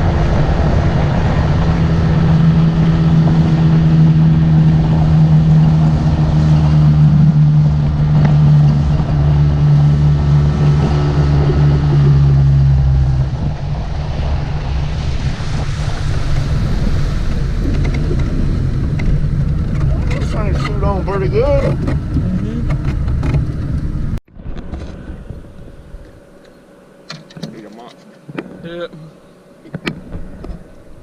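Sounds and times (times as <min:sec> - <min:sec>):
water rushing against hull: 0:00.0 - 0:26.1
motorboat engine running: 0:00.0 - 0:31.0.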